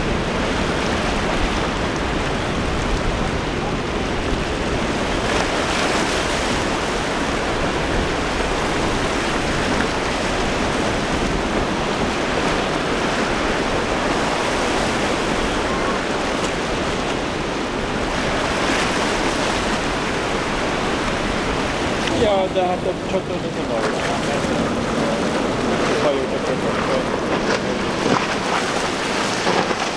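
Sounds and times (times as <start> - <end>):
waves breaking: 0.0 - 29.9
wind buffeting microphone: 0.0 - 29.9.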